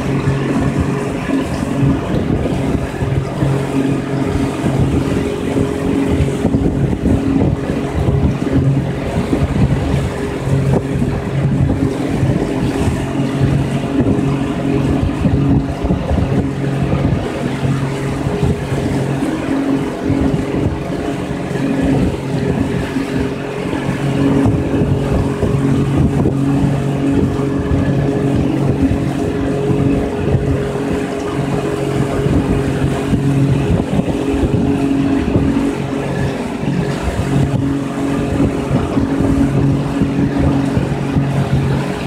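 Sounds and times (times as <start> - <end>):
outboard motor running: 0.0 - 42.0
wind noise on microphone: 0.0 - 42.0.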